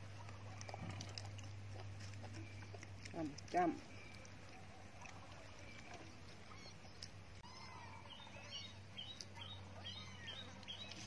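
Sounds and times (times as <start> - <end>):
birds chirping faintly: 0.0 - 11.0
quiet background hum: 0.0 - 11.0.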